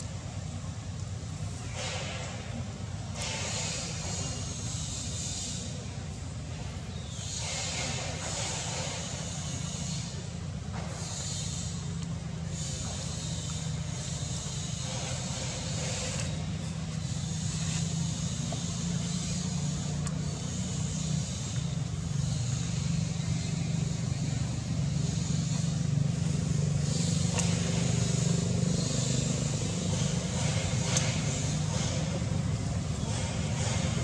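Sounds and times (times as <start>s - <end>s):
low engine hum: 0.0s - 34.0s
high hiss: 0.3s - 34.0s.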